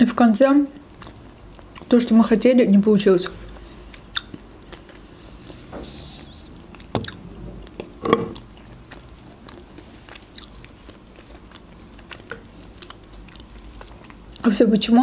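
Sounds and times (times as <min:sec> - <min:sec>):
person chewing: 0:00.8 - 0:01.9, 0:03.2 - 0:14.5.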